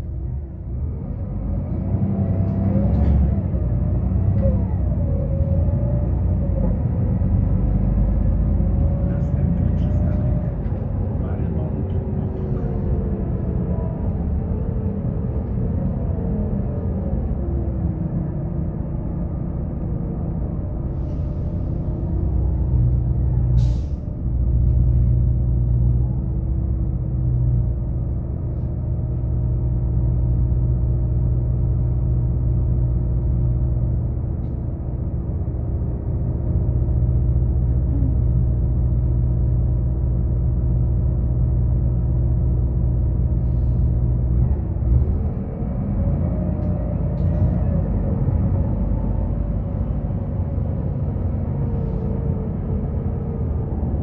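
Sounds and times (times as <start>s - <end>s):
bus engine: 0.0s - 54.0s.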